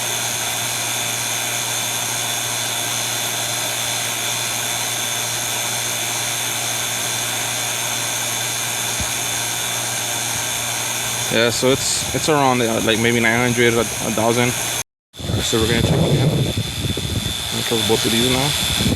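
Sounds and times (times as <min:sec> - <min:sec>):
vacuum pump motor hum: 0:00.0 - 0:18.9.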